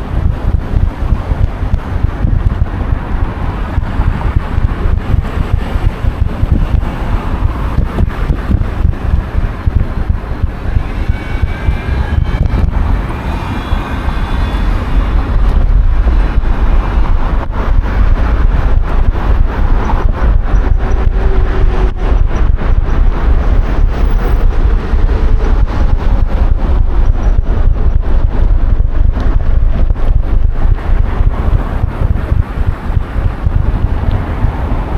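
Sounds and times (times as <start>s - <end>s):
faint pitched whine: 0.0s - 34.2s
road traffic: 0.0s - 34.9s
wind buffeting microphone: 0.0s - 34.9s.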